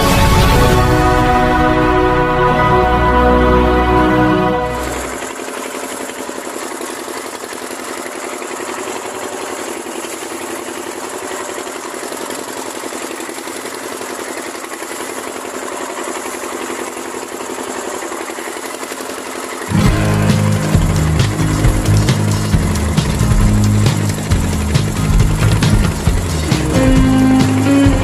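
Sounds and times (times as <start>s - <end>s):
small engine running steadily: 0.0s - 28.0s.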